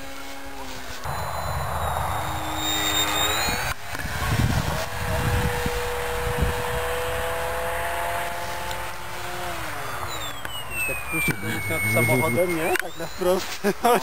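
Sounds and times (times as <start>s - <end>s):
model plane motor whining: 0.0s - 13.4s
wind rumbling on microphone: 1.0s - 13.0s.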